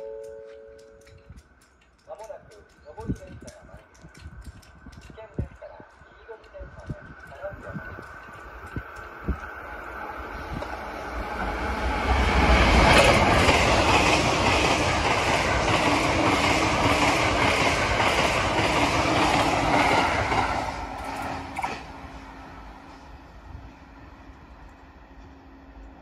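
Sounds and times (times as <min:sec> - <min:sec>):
wheels clickety-clack over rail joints: 0:00.0 - 0:09.7, 0:10.4 - 0:22.2
train passing at speed: 0:00.6 - 0:26.0.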